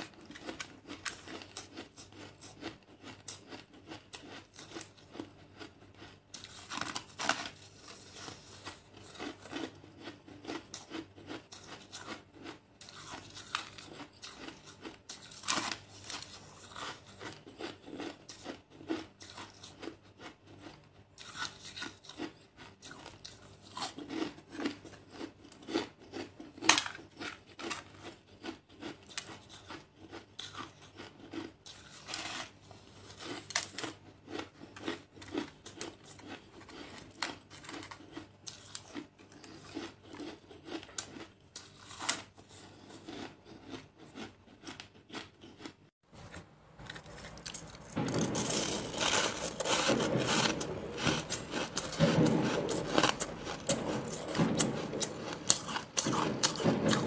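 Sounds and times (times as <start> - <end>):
chewing crunchy ice: 0.0 - 45.9, 46.8 - 57.0.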